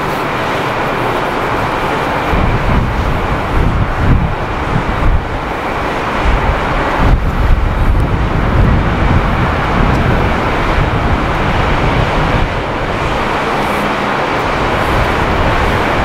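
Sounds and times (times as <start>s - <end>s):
jet airliner landing rumble: 0.0s - 16.0s
wind noise on microphone: 0.0s - 16.0s.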